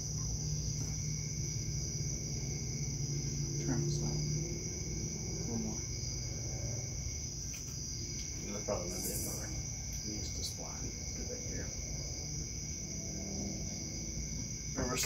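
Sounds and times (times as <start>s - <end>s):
crickets trilling: 0.0s - 15.0s
low steady hum: 0.0s - 15.0s.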